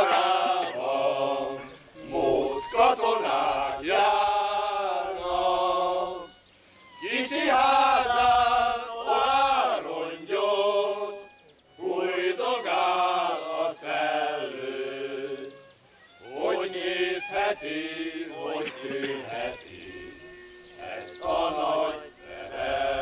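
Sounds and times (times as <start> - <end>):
men's choir singing: 0.0 - 23.0
violin: 0.0 - 23.0.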